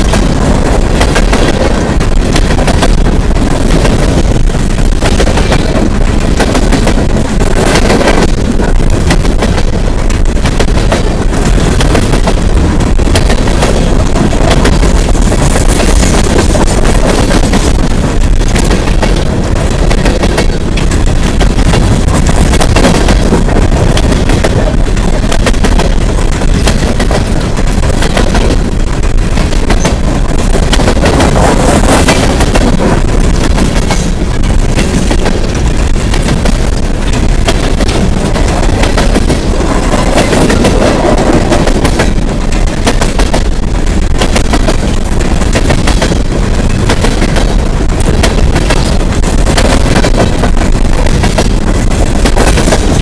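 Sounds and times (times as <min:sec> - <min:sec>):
freight train rumbling and rattling: 0:00.0 - 0:53.0
train wheels clanking and banging: 0:00.0 - 0:53.0.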